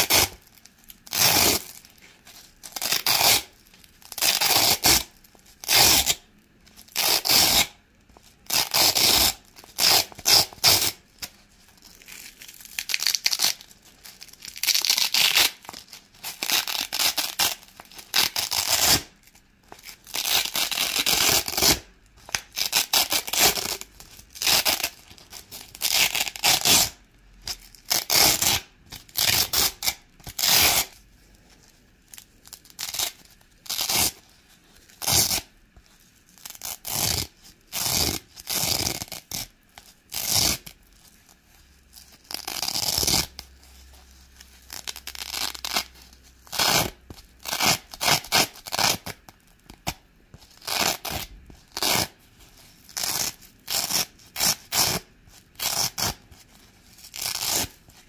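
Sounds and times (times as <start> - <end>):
velcro ripping apart: 0.0 - 6.2, 6.8 - 7.8, 8.4 - 31.0, 32.1 - 35.5, 36.3 - 41.2, 41.9 - 58.0.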